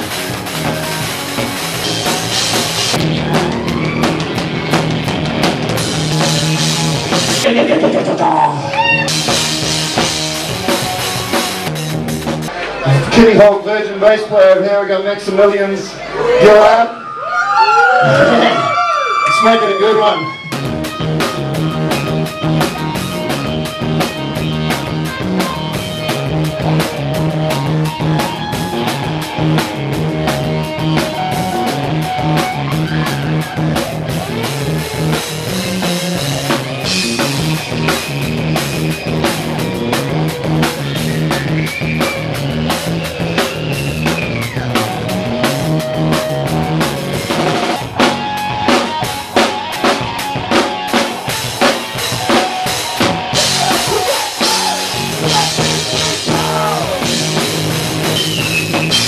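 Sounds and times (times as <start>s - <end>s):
drum kit beat: 0.0s - 13.1s, 18.1s - 59.0s
rock band playing: 0.0s - 59.0s.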